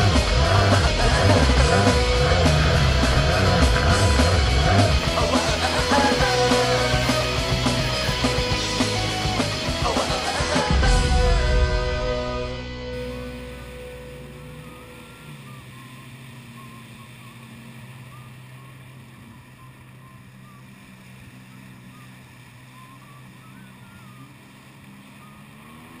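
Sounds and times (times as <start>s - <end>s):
jet ski engine running: 0.0s - 26.0s
water splashing along hull: 0.0s - 26.0s.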